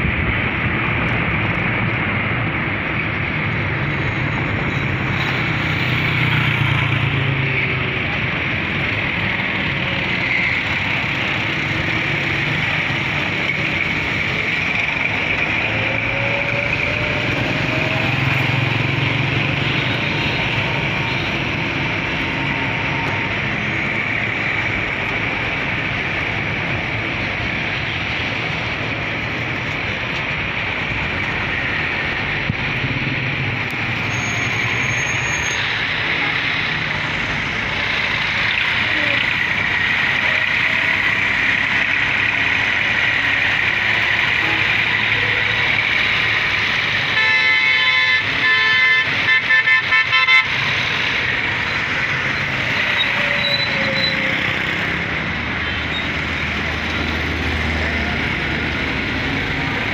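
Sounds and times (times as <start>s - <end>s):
busy road traffic: 0.0s - 59.9s.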